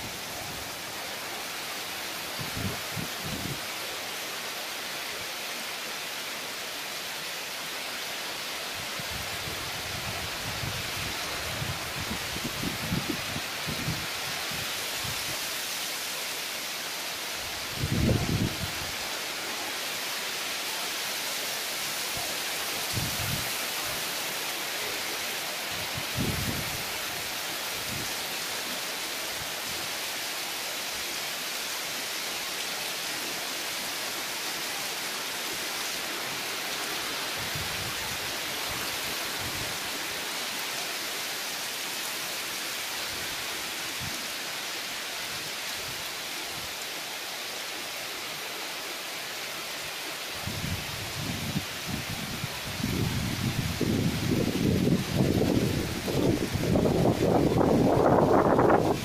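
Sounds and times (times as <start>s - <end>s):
heavy rain on foliage: 0.0s - 59.0s.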